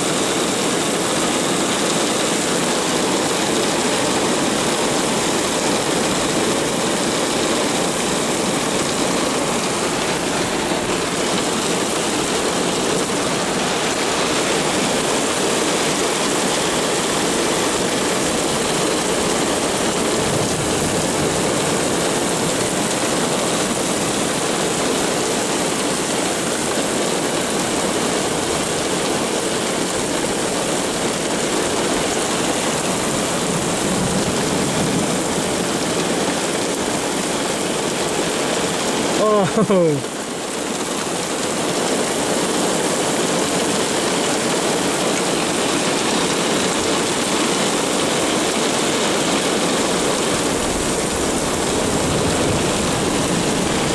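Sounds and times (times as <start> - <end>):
heavy rain on pavement: 0.0 - 53.9.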